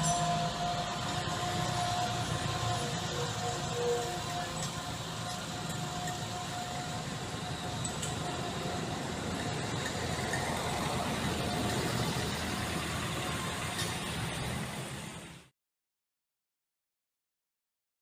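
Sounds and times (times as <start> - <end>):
heavy vehicle engine running: 0.0 - 15.5.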